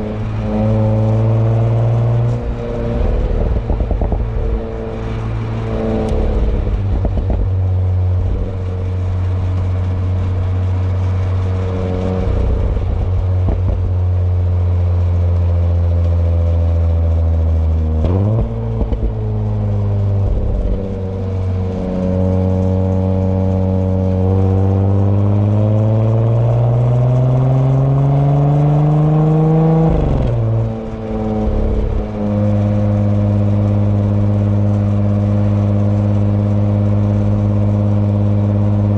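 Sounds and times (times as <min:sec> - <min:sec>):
car exhaust accelerating: 0:00.0 - 0:38.9
exhaust crackles: 0:00.0 - 0:38.9.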